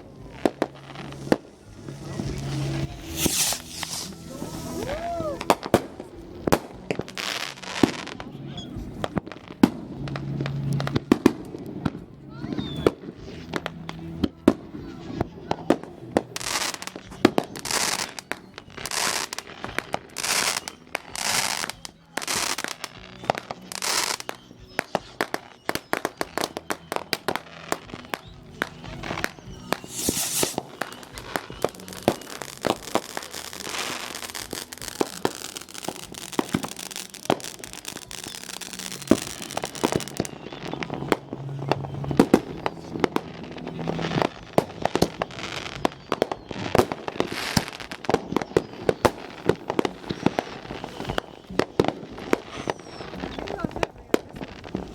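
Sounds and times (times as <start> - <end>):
fireworks bangs: 0.0 - 54.9
fireworks crackling: 0.0 - 54.9
fireworks hissing bursts: 0.0 - 54.9.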